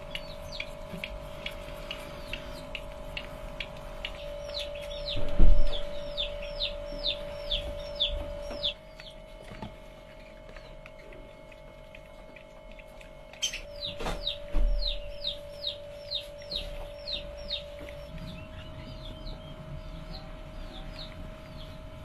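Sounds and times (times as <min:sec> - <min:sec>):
baby hedgehogs peeping: 0:00.0 - 0:22.0
steady hum: 0:00.0 - 0:22.0.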